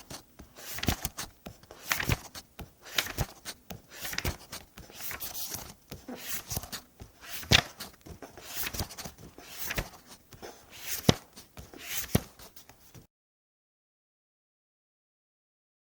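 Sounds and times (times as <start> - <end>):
book pages turning: 0.0 - 13.1.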